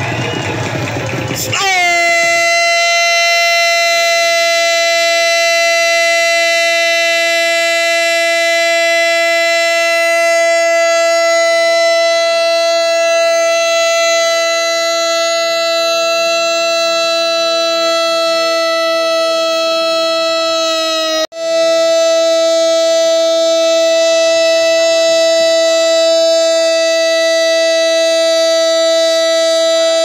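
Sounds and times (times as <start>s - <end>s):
long held note: 0.0s - 30.0s.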